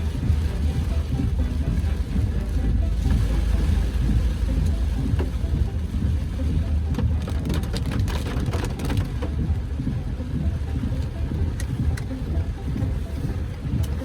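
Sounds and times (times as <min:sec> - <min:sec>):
raindrops ticking on car: 0:00.0 - 0:14.0
road and engine rumble: 0:00.0 - 0:14.0.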